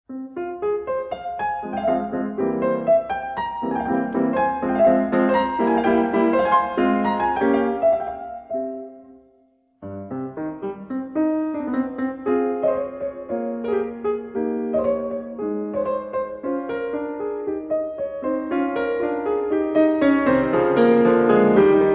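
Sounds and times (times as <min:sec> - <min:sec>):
piano music: 0:00.1 - 0:21.9.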